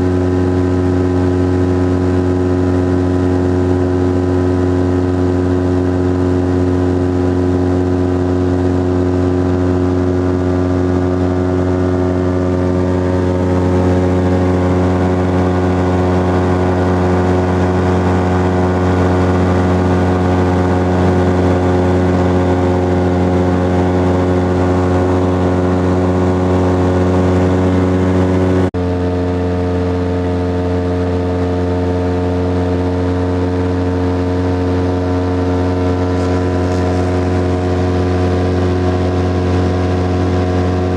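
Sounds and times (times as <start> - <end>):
aircraft engine and propeller droning: 0.0 - 40.9.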